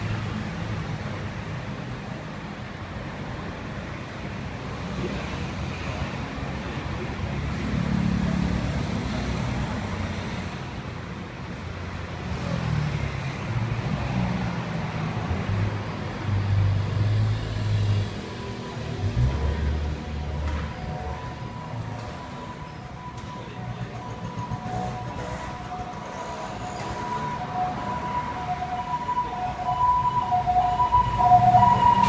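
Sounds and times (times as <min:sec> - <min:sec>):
road traffic passing: 0:00.0 - 0:32.0.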